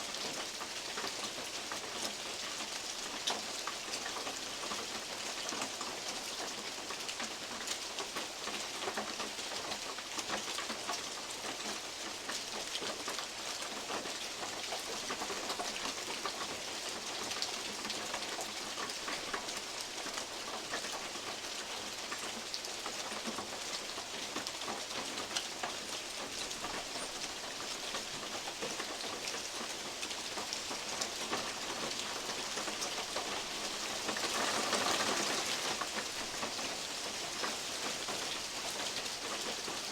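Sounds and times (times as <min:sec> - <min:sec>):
rain tapping on a metal roof: 0:00.0 - 0:39.9.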